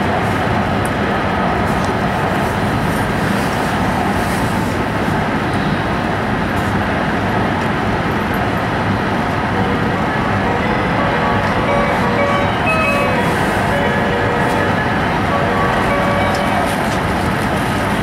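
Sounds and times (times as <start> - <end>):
train running at speed: 0.0 - 18.0.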